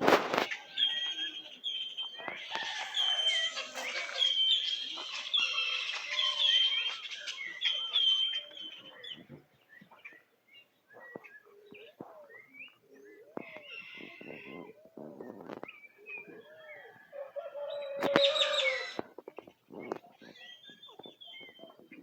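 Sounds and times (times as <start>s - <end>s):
birds chirping: 0.3s - 22.0s.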